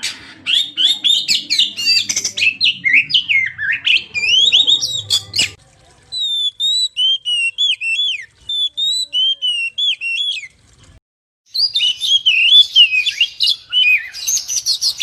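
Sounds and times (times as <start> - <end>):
bird song chirps and whistles: 0.4 - 5.6, 6.2 - 10.5, 11.5 - 15.0.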